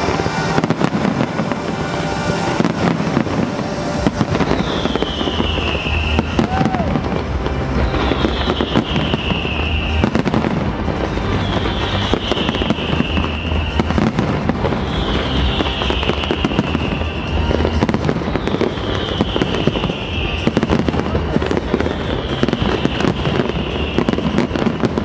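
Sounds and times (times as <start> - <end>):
falling firework whistle: 0.0 - 25.0
fireworks crackling and banging: 0.0 - 25.0.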